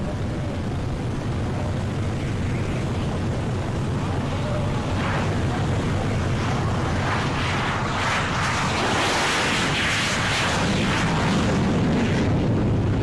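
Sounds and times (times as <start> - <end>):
piston aircraft engines taxiing: 0.0 - 13.0.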